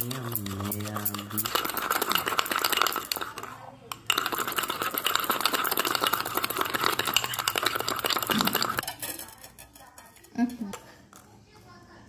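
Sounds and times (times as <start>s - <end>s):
spoon beating paste in a cup: 0.0s - 11.2s.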